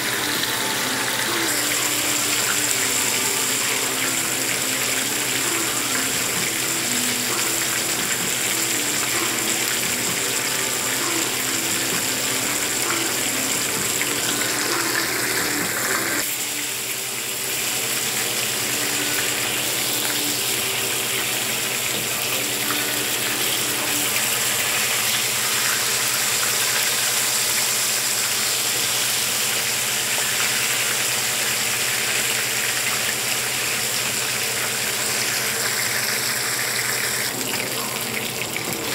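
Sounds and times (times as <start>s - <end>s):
fish sizzling in hot oil: 0.1s - 38.9s.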